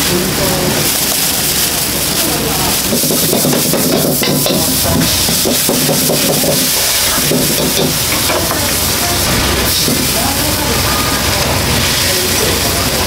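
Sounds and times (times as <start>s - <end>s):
oil and food sizzling: 0.0s - 13.0s.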